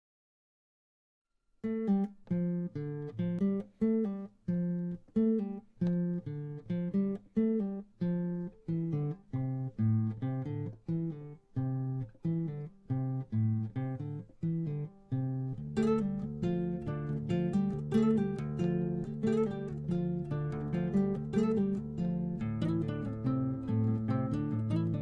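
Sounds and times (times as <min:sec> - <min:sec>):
acoustic guitar picking chords: 0:01.7 - 0:25.0.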